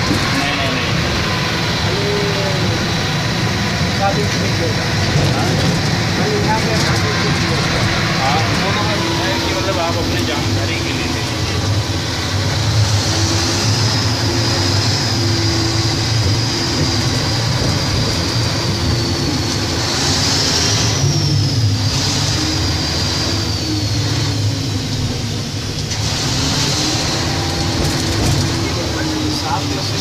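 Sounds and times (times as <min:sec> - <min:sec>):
heavy machinery engine drone: 0:00.0 - 0:30.0
high machinery whine: 0:00.0 - 0:30.0.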